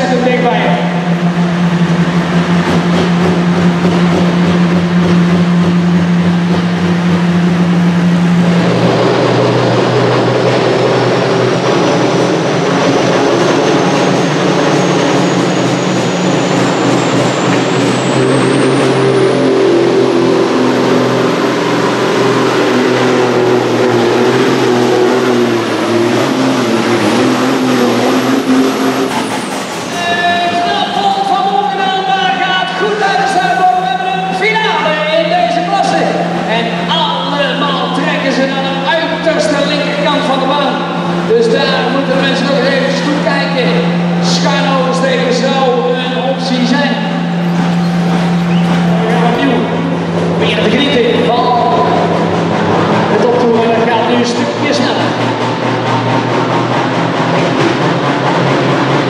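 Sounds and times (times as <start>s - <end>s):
high rising whine: 0.0s - 59.0s
tractor engines at full load: 0.0s - 59.0s
tractor idling: 0.0s - 59.0s.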